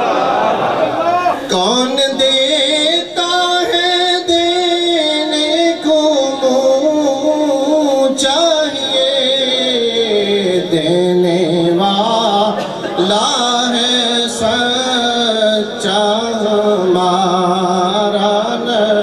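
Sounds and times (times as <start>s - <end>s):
man singing devotional song: 1.4s - 19.0s.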